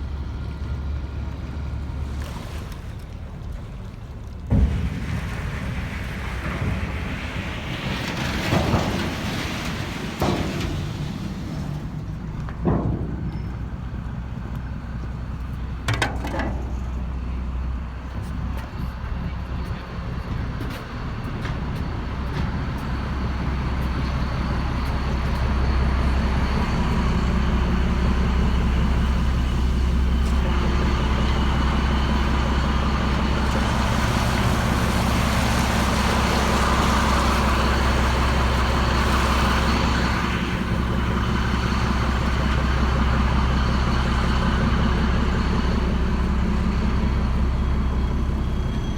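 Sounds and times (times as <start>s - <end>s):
boat diesel engine drone: 0.0s - 48.9s.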